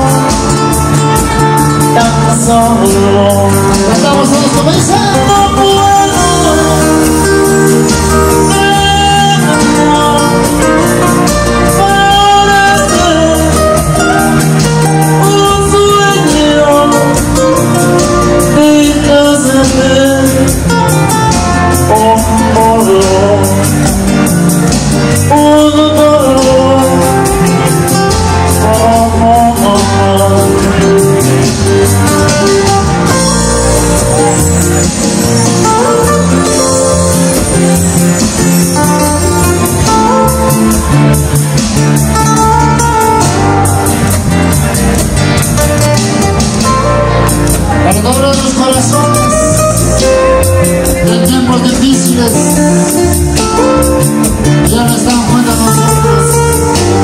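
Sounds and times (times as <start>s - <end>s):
man singing into a microphone: 0.0s - 41.6s, 46.6s - 57.0s
guitar accompaniment: 0.0s - 57.0s.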